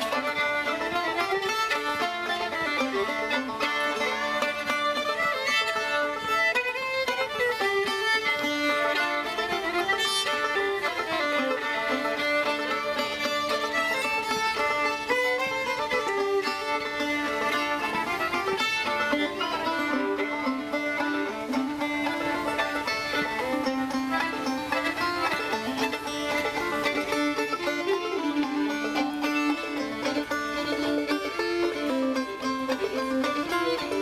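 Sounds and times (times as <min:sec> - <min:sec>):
banjo picking: 0:00.0 - 0:34.0
fiddle bowing melody: 0:00.0 - 0:34.0.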